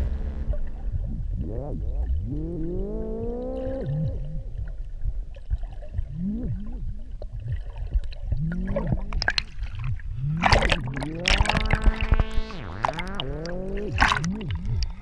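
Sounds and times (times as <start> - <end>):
underwater gurgling and bubbling: 0.0 - 15.0
water splashing: 0.0 - 15.0.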